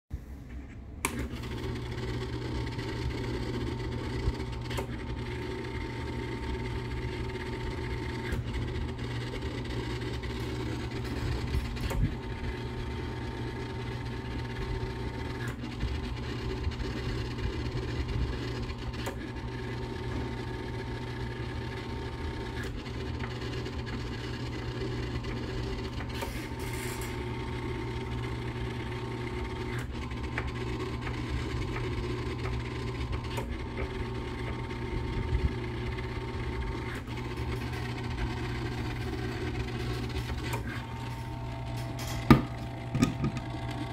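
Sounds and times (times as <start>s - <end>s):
motor hum: 0.2s - 43.9s.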